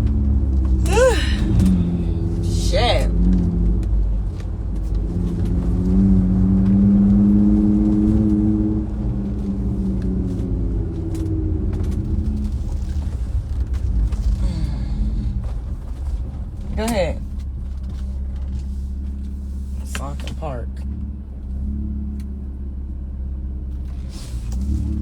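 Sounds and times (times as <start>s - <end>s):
car engine hum: 0.0s - 25.0s
road rumble inside car: 0.0s - 25.0s.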